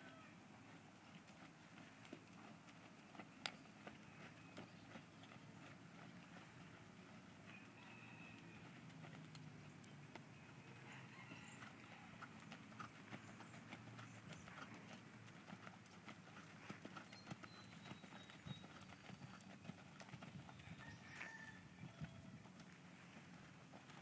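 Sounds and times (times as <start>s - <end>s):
horse hoofbeats on sand: 0.6s - 24.0s.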